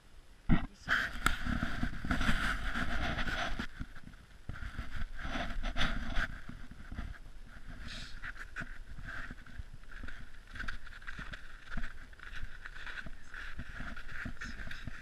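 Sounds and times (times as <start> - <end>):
footsteps crunching in snow: 1.3 - 15.0.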